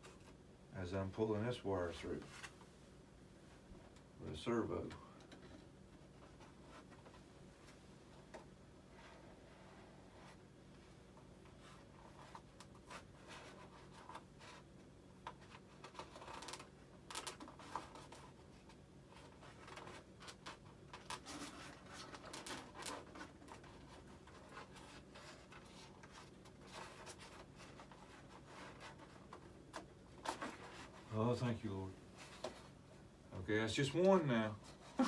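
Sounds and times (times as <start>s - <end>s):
faint scratching and rubbing on foam: 0.0s - 2.6s, 5.5s - 35.0s.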